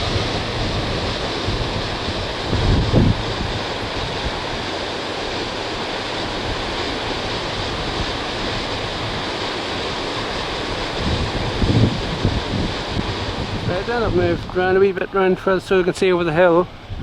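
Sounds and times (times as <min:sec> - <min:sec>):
sea surf: 0:00.0 - 0:17.0
wind buffeting microphone: 0:00.0 - 0:17.0.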